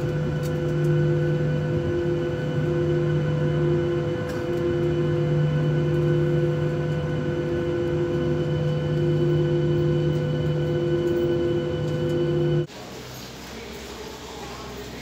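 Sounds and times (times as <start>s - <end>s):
jet engines idling in cabin: 0.0s - 12.7s.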